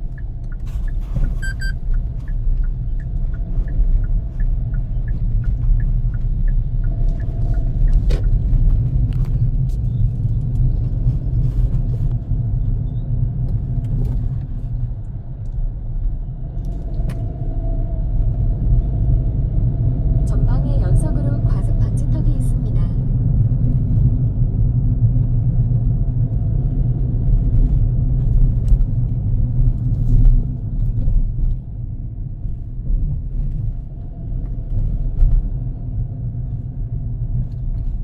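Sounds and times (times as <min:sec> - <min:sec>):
car engine and tyre rumble: 0:00.0 - 0:38.0.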